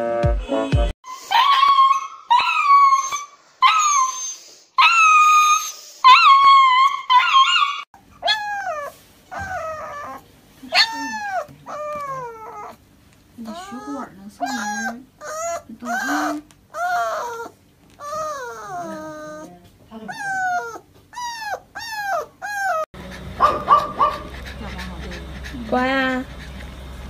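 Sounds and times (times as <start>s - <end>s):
dog howling and crying: 1.1s - 12.8s, 13.4s - 24.7s.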